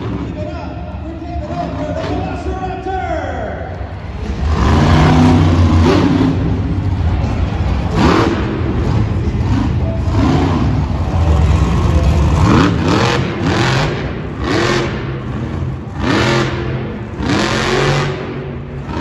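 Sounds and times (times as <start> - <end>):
truck engine revving: 0.0 - 2.5, 3.8 - 19.0
low engine rumble: 0.0 - 19.0.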